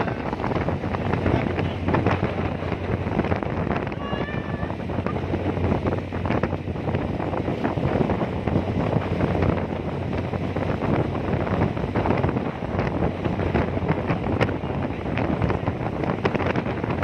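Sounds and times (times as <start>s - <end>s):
low engine hum: 0.0s - 17.0s
wind buffeting microphone: 0.0s - 17.0s.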